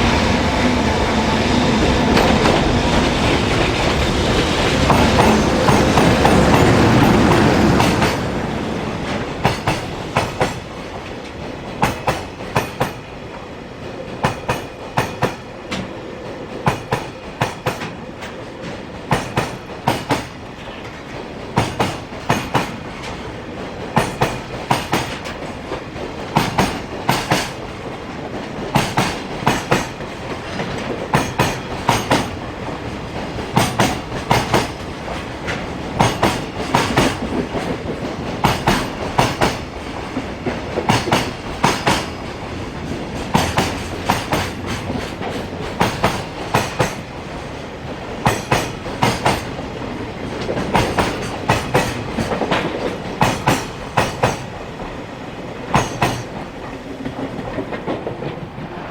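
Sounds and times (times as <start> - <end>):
freight train rumble: 0.0 - 58.9
train wheels clacking on rail joints: 0.0 - 58.9.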